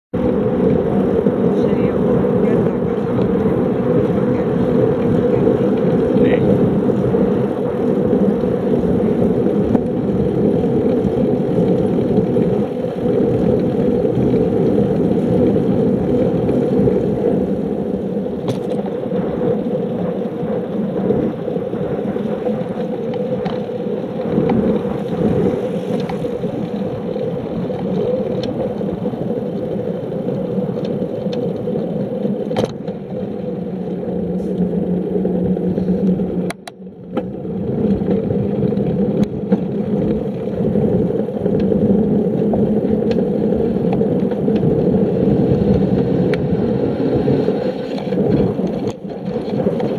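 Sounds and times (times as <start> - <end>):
bicycle tyres on asphalt: 0.1 - 49.9
wind rushing over camera: 0.1 - 49.9.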